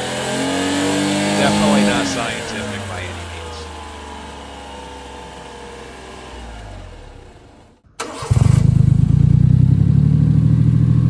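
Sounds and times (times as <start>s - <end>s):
loud deep engine idle drone: 1.3s - 11.0s.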